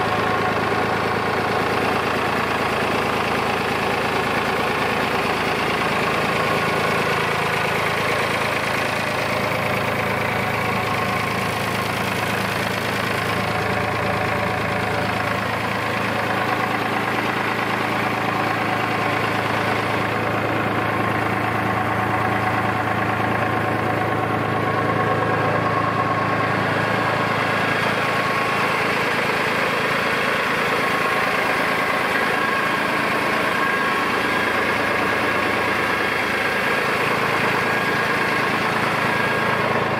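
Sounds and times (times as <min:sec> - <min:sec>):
diesel tractor engine idling: 0:00.0 - 0:39.9.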